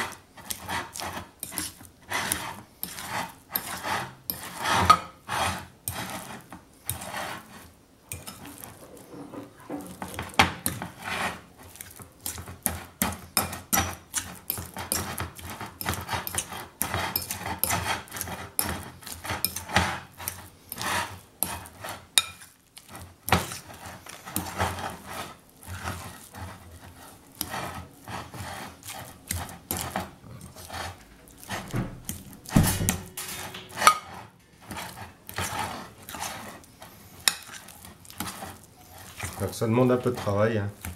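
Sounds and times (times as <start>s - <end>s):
hands kneading butter: 0.0s - 40.9s.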